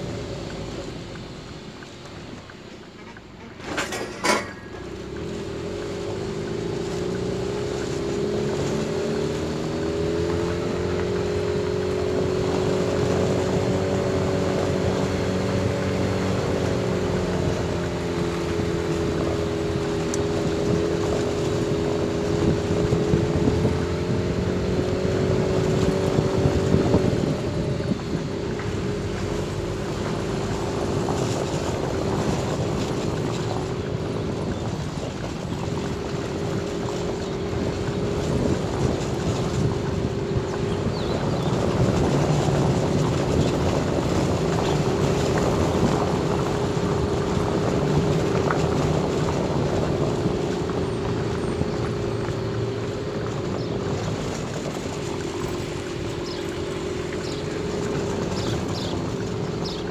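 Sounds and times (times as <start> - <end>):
vehicle engine cruising: 0.0 - 59.9
wind on microphone: 4.8 - 59.9.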